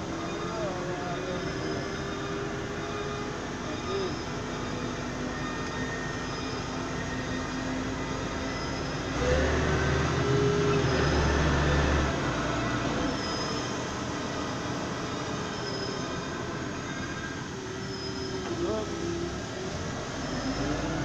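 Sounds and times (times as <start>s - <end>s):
deep engine drone: 0.0s - 21.0s.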